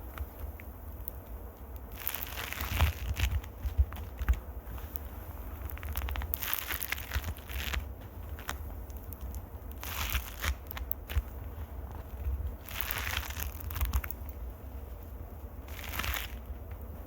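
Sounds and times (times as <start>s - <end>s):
fingers scratching on microphone: 0.0s - 14.4s, 15.7s - 16.6s.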